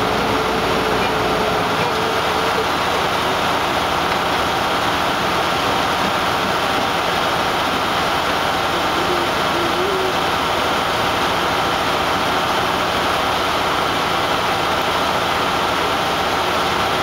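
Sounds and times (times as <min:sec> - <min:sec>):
hydraulic pump running: 0:00.0 - 0:17.0.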